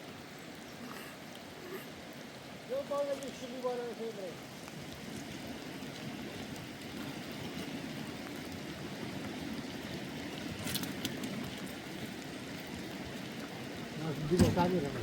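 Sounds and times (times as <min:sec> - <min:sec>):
rain and running water: 0:00.0 - 0:15.0.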